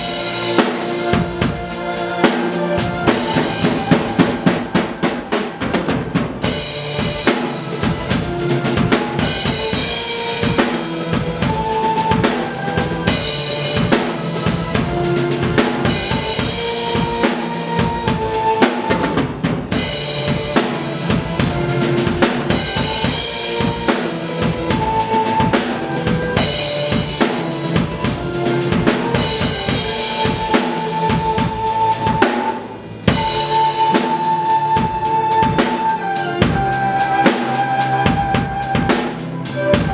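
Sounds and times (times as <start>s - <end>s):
drum kit played hard: 0.0s - 39.9s
recorded rock song: 0.0s - 39.9s.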